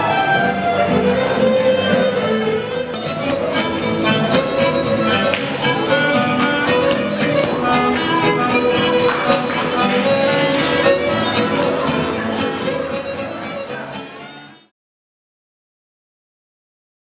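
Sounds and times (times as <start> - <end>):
fiddle music: 0.0 - 14.7.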